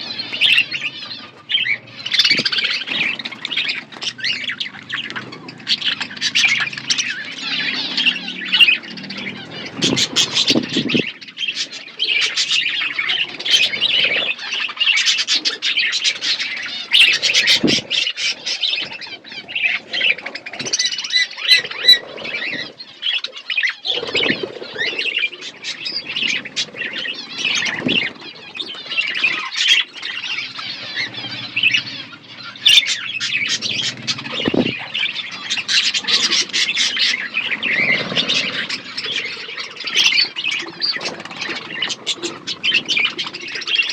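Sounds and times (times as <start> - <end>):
budgerigars chattering and squawking: 0.0 - 43.9.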